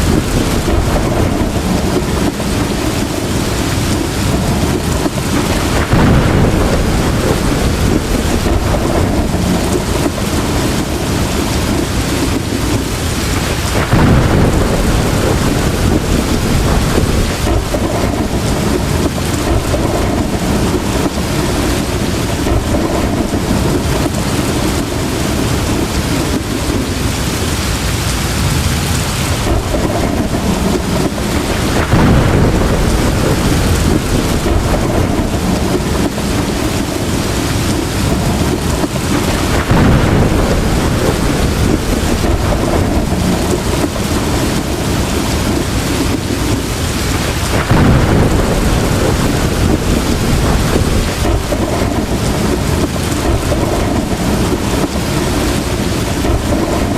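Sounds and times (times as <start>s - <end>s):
heavy rain pouring: 0.0s - 56.9s
low rolling thunder: 0.0s - 56.9s.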